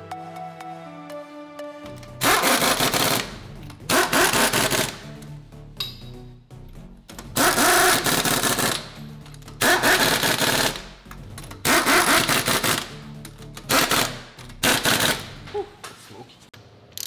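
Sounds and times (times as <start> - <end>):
background music: 0.0 - 15.9.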